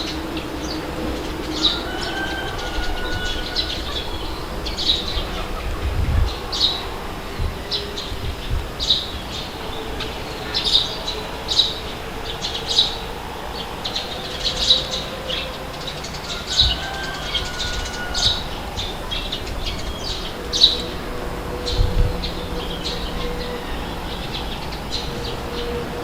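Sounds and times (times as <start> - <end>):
birds chirping: 0.0 - 26.0
wind rushing: 0.0 - 26.0.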